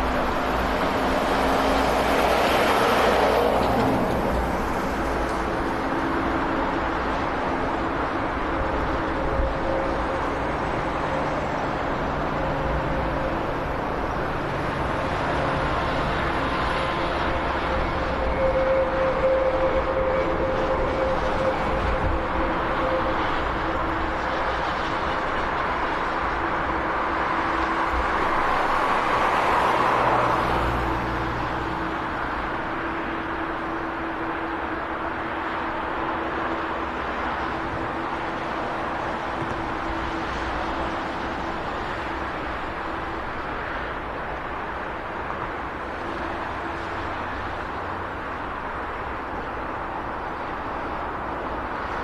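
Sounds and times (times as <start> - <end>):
turboprop engines rumbling: 0.0 - 52.0.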